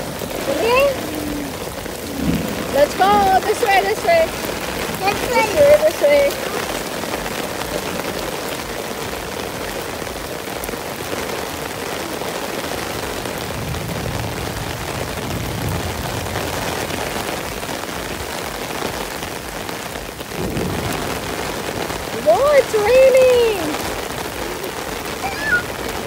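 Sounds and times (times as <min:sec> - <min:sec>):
heavy rain pattering: 0:00.0 - 0:26.0.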